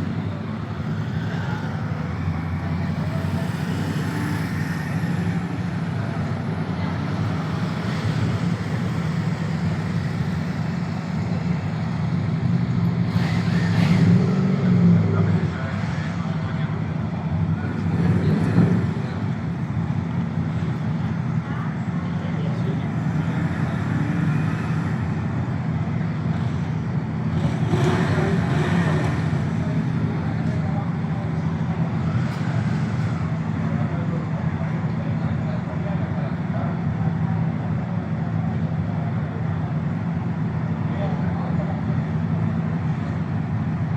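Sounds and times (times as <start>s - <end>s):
motorcycle engines running: 0.0s - 43.9s.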